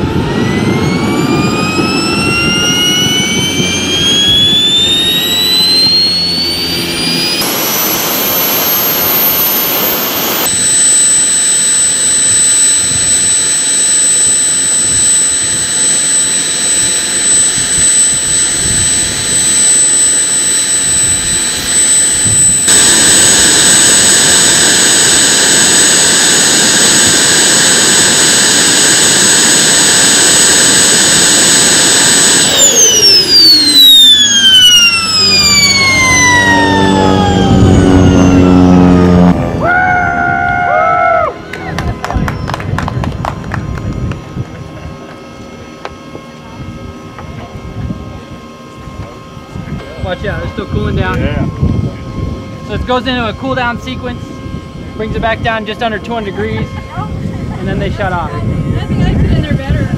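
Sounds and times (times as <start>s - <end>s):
jet engine whine and roar: 0.0s - 59.9s.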